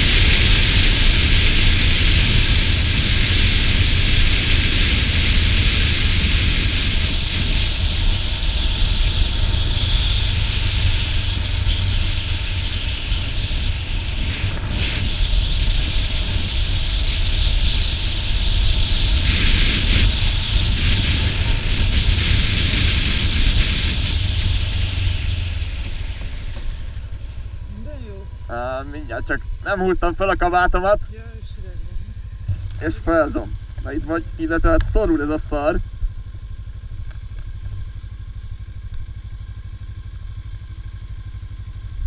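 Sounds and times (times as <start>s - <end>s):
wind rush over microphone: 0.0s - 38.0s
motorcycle engine and tyre rumble: 0.0s - 42.0s.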